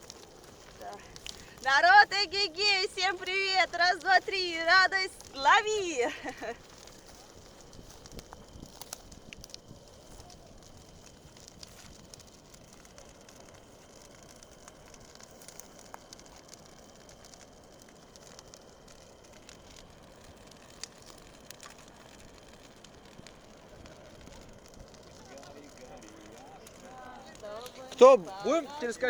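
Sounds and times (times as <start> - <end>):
bonfire crackling: 0.0 - 29.0.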